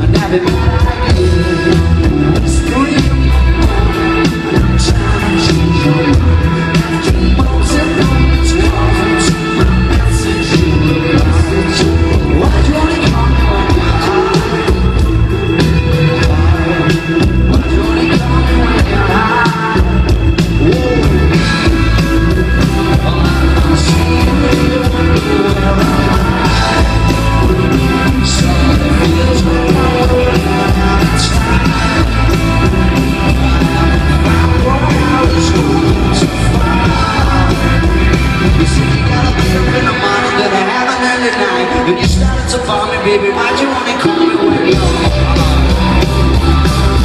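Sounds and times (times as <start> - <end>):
rock band playing live: 0.0 - 47.0.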